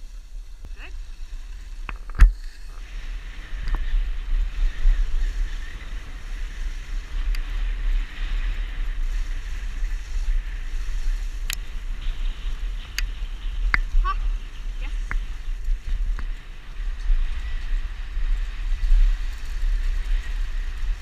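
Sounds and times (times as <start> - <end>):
wind buffeting microphone: 0.0 - 21.0
sled runners hissing on snow: 2.4 - 21.0.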